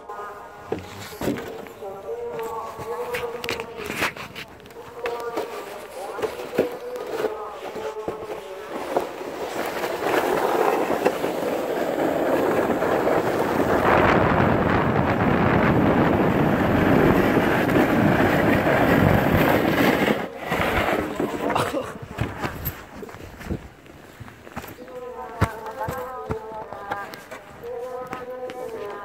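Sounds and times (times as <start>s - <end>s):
sled scraping over snow: 0.1s - 29.0s.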